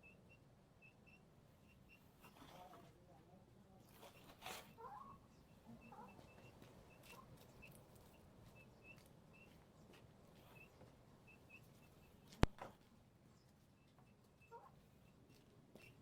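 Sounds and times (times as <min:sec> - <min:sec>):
birds chirping: 0:00.0 - 0:02.5, 0:03.7 - 0:16.0.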